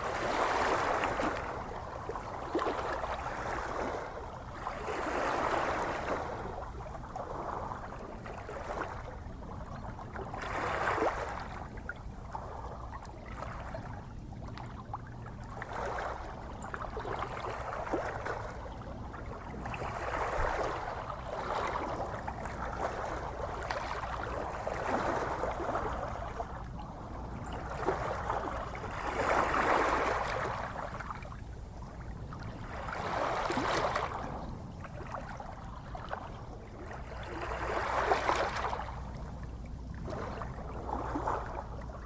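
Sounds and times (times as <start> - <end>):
ocean waves lapping: 0.0 - 9.1, 14.7 - 42.0.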